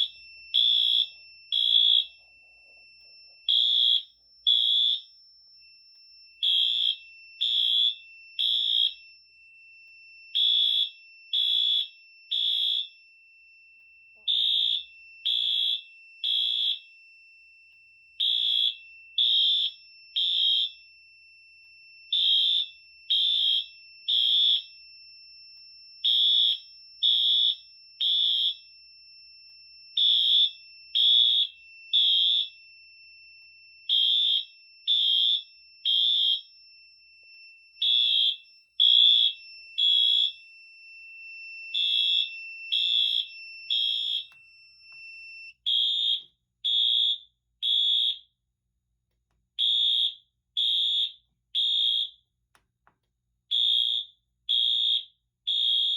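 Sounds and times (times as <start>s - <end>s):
fire alarm beeping: 0.0s - 48.3s, 49.6s - 52.3s, 53.5s - 55.9s.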